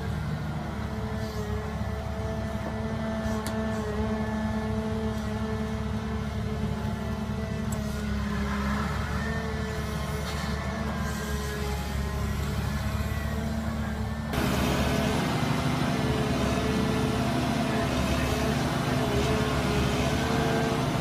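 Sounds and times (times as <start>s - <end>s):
excavator diesel engine humming: 0.0s - 21.0s.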